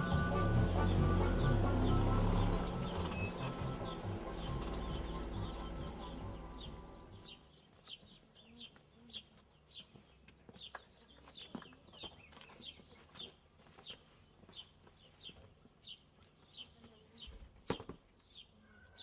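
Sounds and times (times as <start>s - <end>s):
small bird chirping: 2.4s - 19.0s.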